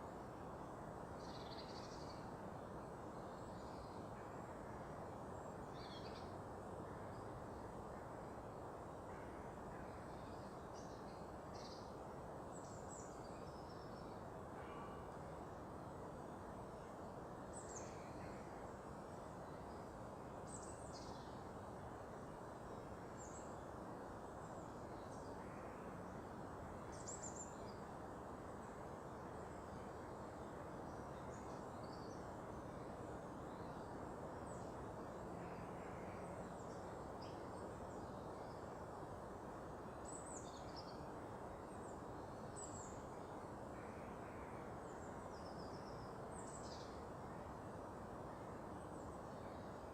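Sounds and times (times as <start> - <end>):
faint background noise: 0.0 - 49.9.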